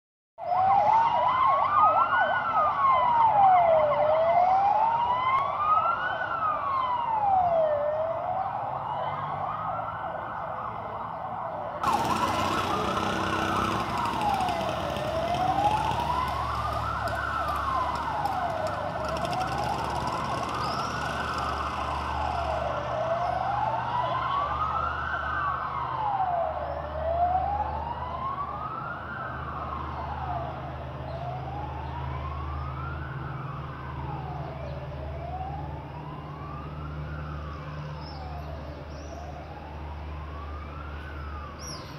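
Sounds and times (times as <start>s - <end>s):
wailing siren: 0.4s - 41.9s.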